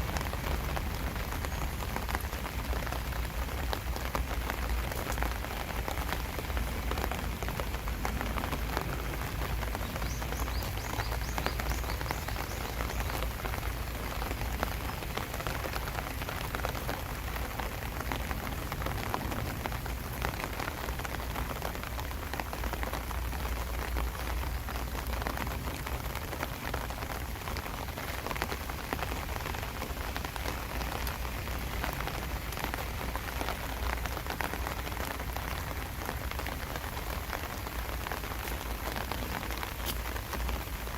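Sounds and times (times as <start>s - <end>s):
rain patter: 0.0s - 40.9s.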